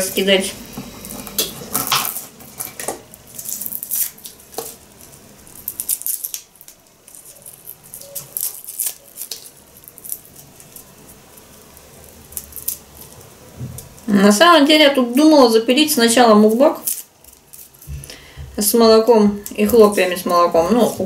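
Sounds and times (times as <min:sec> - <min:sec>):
garlic skins crackling: 0:00.0 - 0:21.0.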